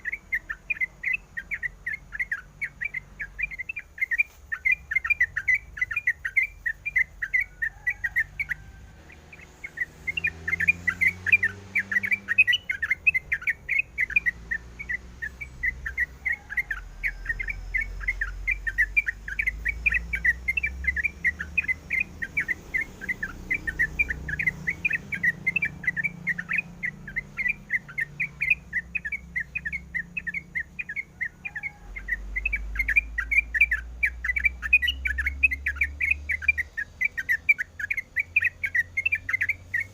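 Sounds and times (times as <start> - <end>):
bird singing fast chirps: 0.0 - 39.9.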